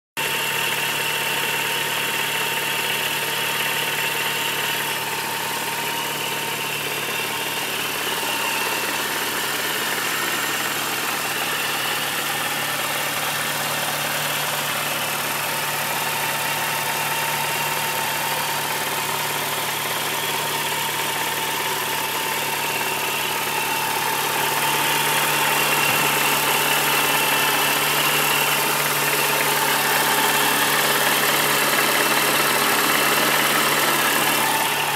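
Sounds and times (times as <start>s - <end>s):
car engine idling: 0.2s - 34.9s
engine tapping noise: 0.2s - 34.9s.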